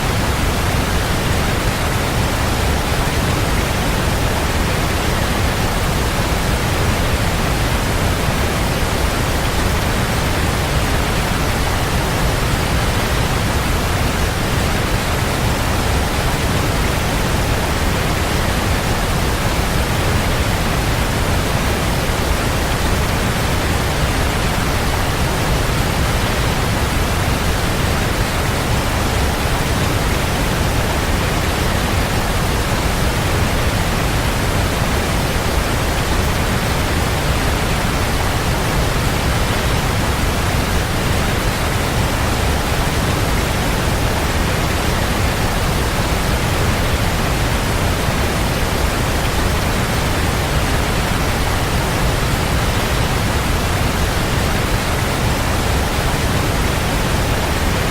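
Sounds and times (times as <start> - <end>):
waterfall splashing and rumbling: 0.0 - 57.9.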